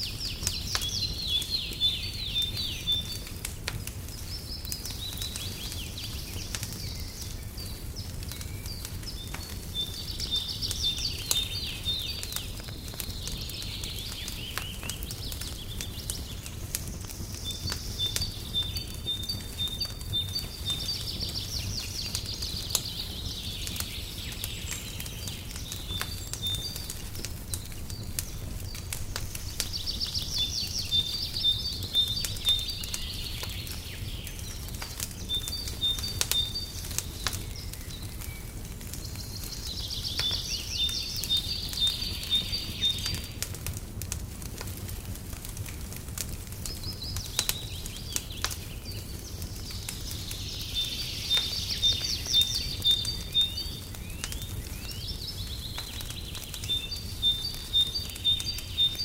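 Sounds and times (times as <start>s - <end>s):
songbird singing: 0.0s - 43.6s, 46.4s - 59.0s
wood fire crackling: 0.0s - 59.0s.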